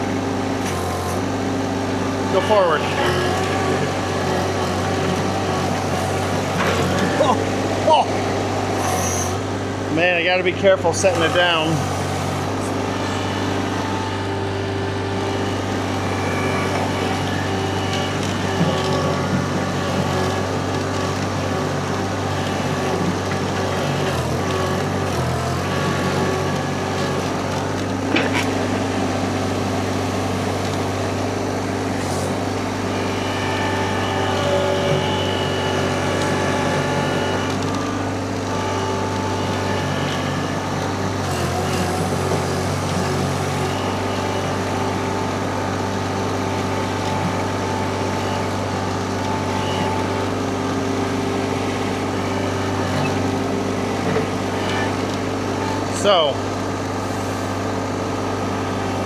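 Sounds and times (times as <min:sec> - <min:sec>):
engine running under load: 0:00.0 - 0:59.0
high hydraulic whine: 0:00.0 - 0:59.0.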